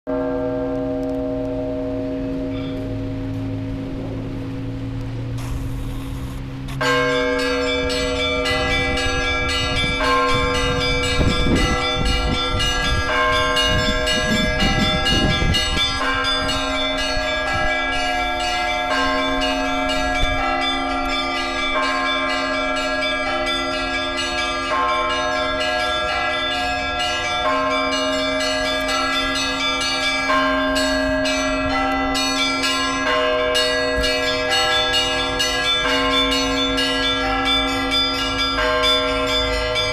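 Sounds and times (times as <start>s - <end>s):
small church bells ringing fast: 0.1s - 4.7s, 6.8s - 39.9s
large low bell ringing: 0.1s - 39.9s.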